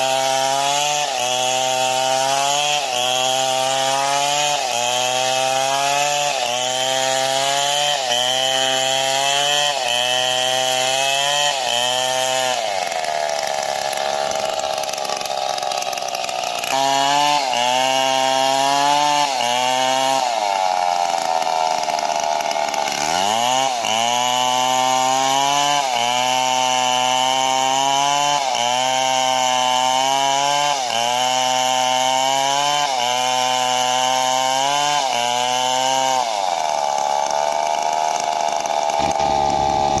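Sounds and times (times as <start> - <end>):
chainsaw running under load: 0.0 - 40.0.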